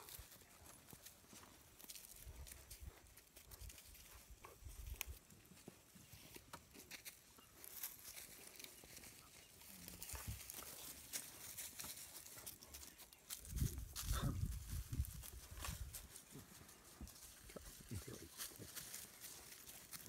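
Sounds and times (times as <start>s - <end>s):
paws rustling on dry leaves: 0.0s - 20.0s.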